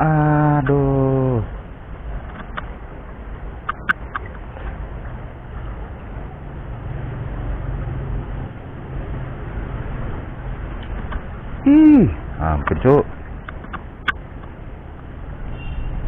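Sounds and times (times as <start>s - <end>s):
motor engine rumble: 0.0s - 15.5s.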